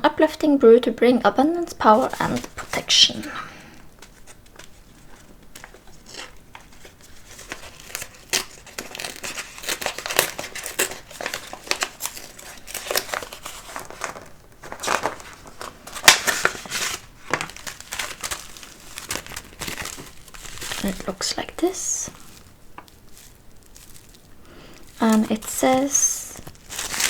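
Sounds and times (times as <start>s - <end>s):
packaging crinkling and tearing: 1.9s - 27.0s.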